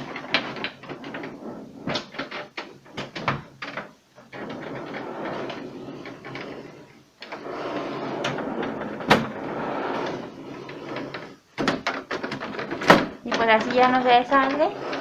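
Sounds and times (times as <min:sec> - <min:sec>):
plastic tray scraping rattle: 0:00.0 - 0:15.0.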